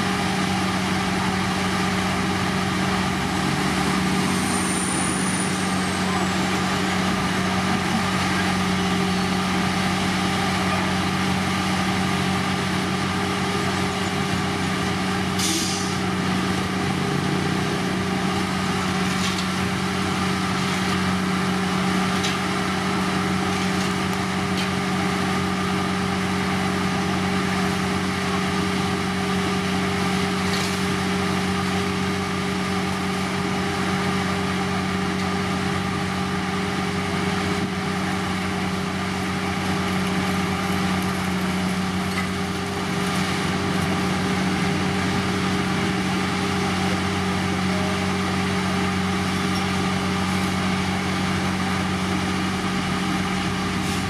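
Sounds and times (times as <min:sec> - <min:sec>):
diesel construction machinery running: 0:00.0 - 0:54.0.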